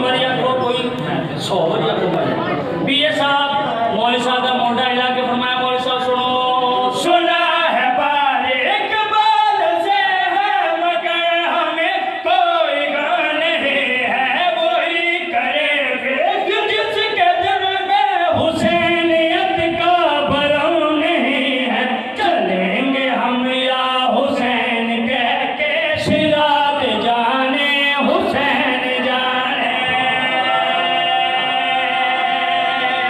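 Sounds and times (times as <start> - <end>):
men singing together: 6.4 - 33.0.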